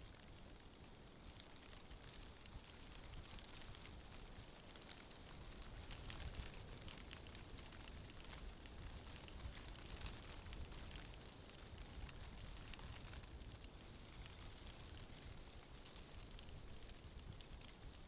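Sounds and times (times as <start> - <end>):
steady hiss with crackles: 0.0 - 18.0.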